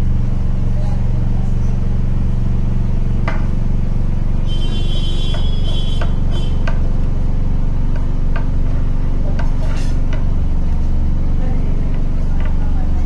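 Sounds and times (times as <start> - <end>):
high-pitched whine: 0.0 - 13.0
low mechanical hum: 0.0 - 13.0.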